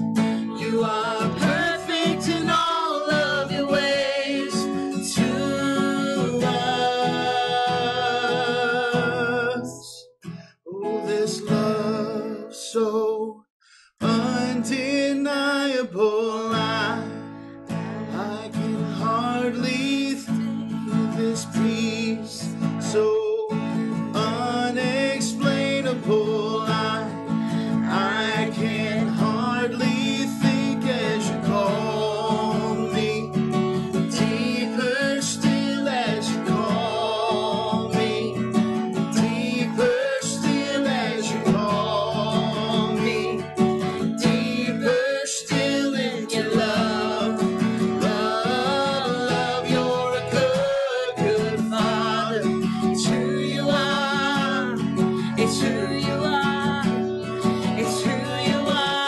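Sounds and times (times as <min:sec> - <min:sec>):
strummed acoustic guitar: 0:00.0 - 0:13.1, 0:14.0 - 0:59.0
woman and man singing: 0:00.2 - 0:10.0, 0:10.7 - 0:13.4, 0:18.1 - 0:59.0.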